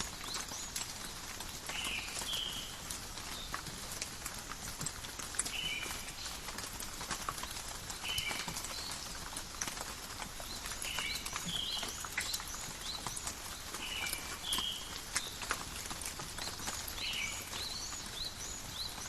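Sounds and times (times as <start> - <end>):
rain in a forest: 0.0 - 19.0.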